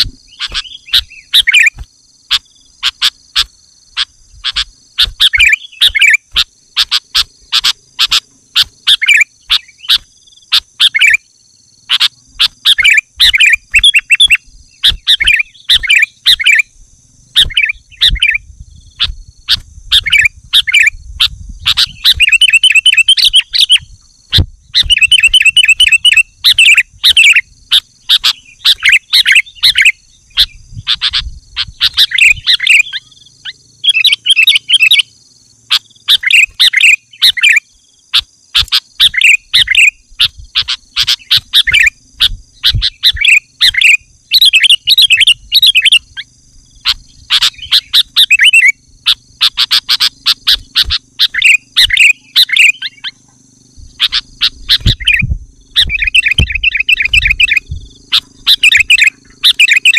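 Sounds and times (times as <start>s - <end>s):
bird singing whistled phrases: 0.3s - 3.1s, 4.0s - 11.2s, 11.9s - 16.7s, 17.4s - 35.1s, 35.7s - 53.2s, 54.0s - 59.9s.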